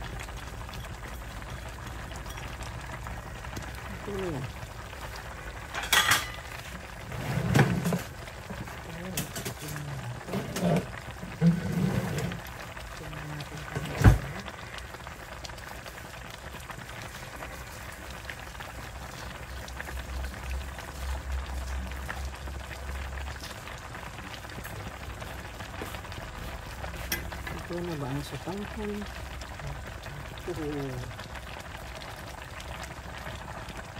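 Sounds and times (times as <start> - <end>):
soup bubbling in a pot: 0.0 - 33.9.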